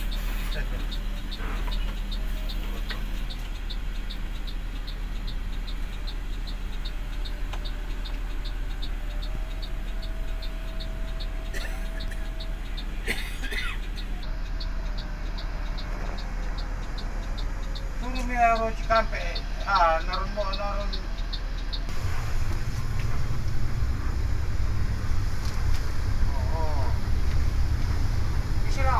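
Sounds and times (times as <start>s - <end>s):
diesel engine idling: 0.0s - 28.9s
turn signal ticking: 0.0s - 28.9s.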